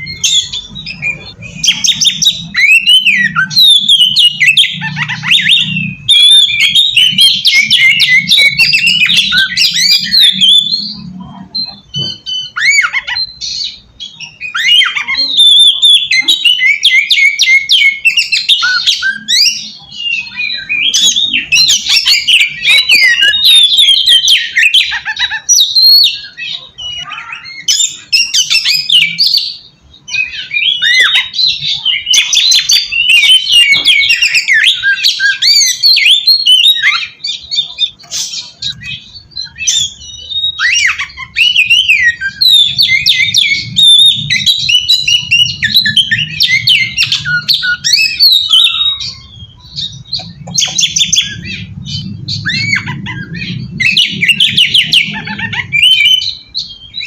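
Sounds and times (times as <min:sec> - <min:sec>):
bird singing varied song: 0:00.0 - 0:57.0.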